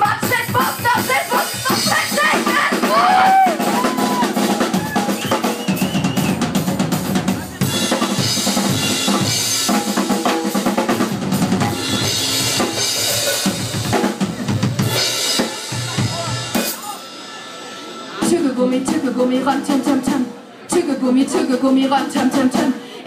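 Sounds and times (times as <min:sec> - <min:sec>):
drum kit groove: 0:00.0 - 0:22.8.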